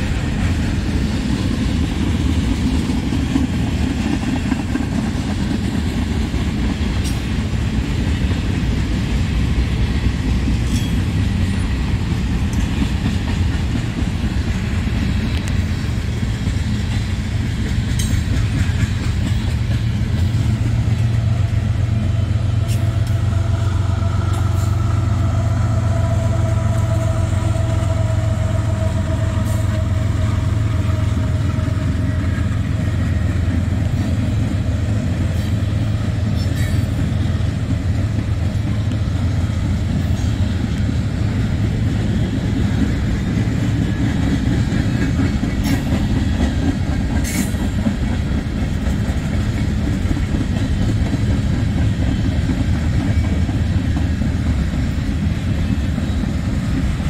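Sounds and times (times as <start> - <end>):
train wheel clicks: 0.0 - 21.8, 22.6 - 23.4, 30.8 - 57.0
freight train cars rumbling: 0.0 - 57.0.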